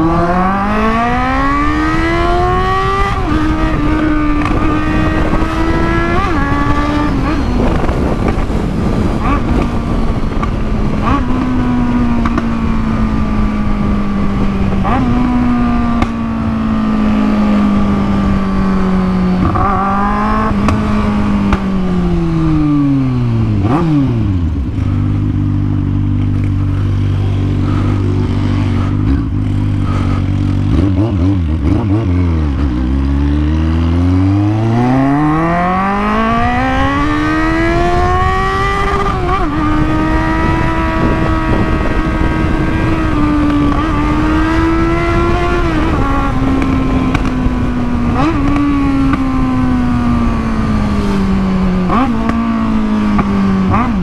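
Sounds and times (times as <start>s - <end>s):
motorcycle engine revving and idling: 0.0s - 54.0s.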